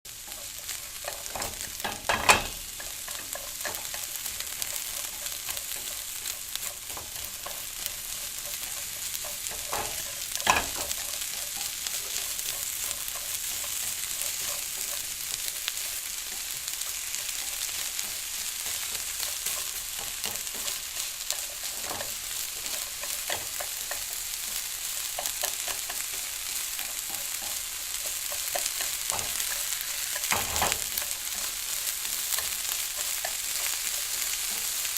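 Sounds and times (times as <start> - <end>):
onions sizzling in a pan: 0.0 - 34.9.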